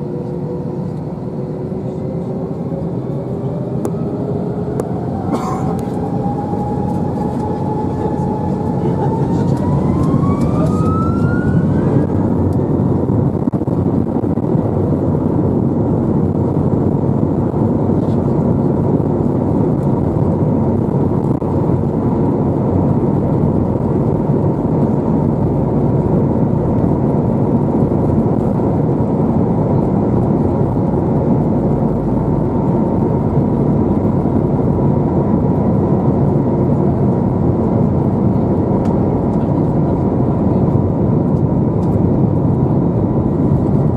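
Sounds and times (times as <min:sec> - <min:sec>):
jet engines spooling up: 0:00.0 - 0:43.9.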